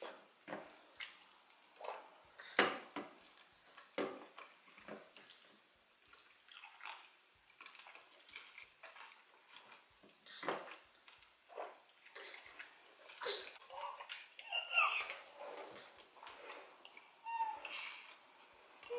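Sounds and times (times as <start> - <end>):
wet eating squelches: 0.0 - 18.9
mouth chewing: 3.2 - 18.9.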